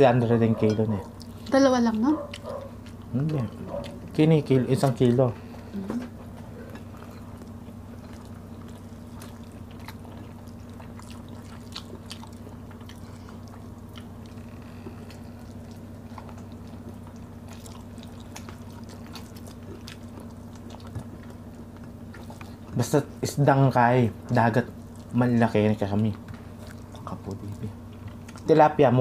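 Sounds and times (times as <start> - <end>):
steady low hum: 0.0 - 29.0
wet chewing and mouth clicks: 2.1 - 5.0, 6.6 - 23.3, 24.2 - 28.5.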